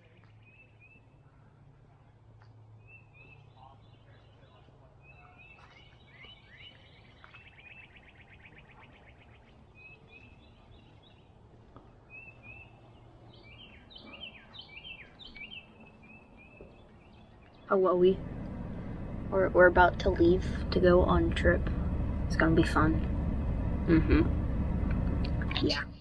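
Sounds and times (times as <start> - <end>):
faint low hum: 0.0 - 26.0
songbirds chirping: 0.0 - 26.0.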